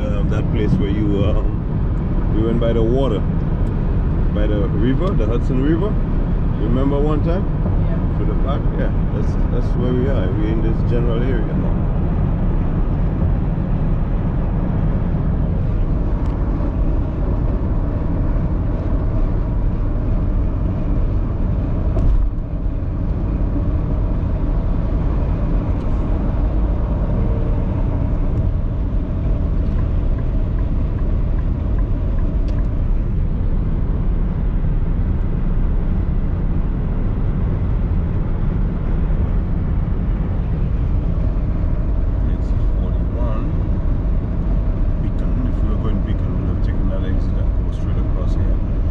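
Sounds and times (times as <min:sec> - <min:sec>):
car road noise: 0:00.0 - 0:48.9.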